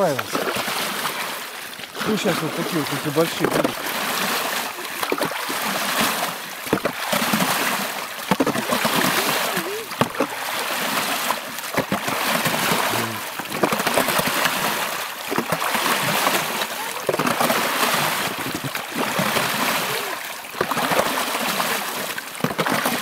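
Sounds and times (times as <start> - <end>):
shovel splashing water: 0.0 - 23.0.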